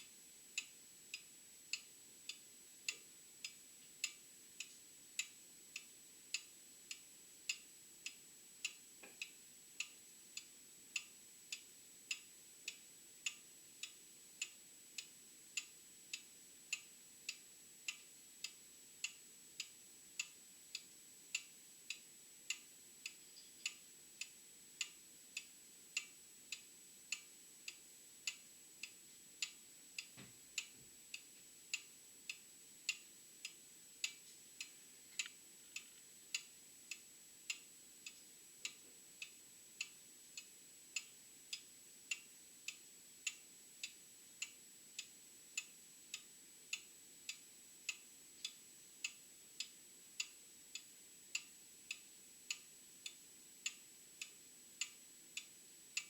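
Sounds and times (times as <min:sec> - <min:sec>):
faint high-pitched whine: 0:00.0 - 0:56.0
mechanical clock ticking: 0:00.0 - 0:56.0.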